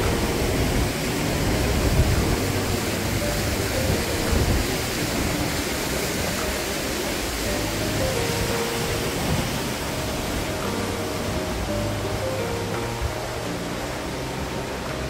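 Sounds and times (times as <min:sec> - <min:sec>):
rushing stream and waterfalls: 0:00.0 - 0:15.0.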